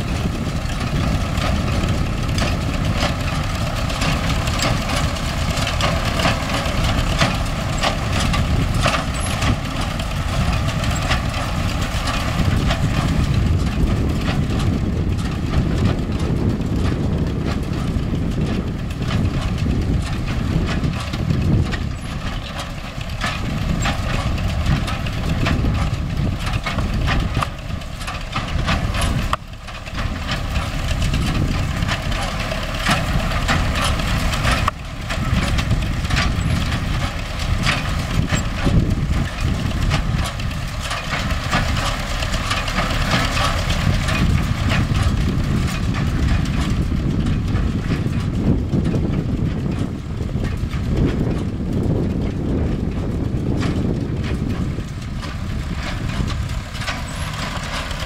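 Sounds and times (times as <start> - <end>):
hay baler clattering: 0.0 - 58.0
tractor diesel engine running: 0.0 - 58.0.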